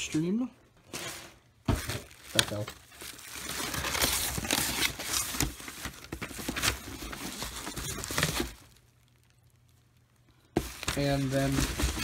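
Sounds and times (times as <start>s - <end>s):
bubble wrap and cardboard rustling: 0.0s - 12.0s.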